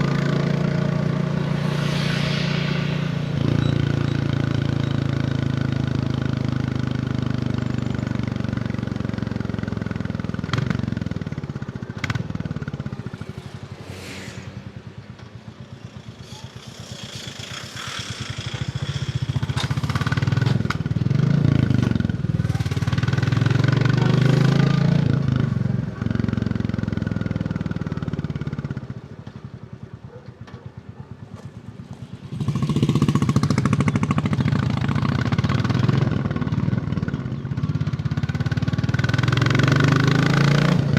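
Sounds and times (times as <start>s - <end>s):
motorcycle engine accelerating: 0.0s - 29.0s, 31.6s - 40.9s.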